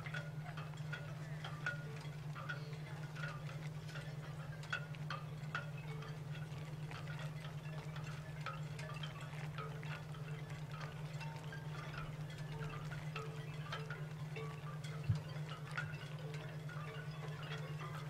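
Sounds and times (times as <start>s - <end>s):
bell-like chiming notes: 0.0s - 18.0s.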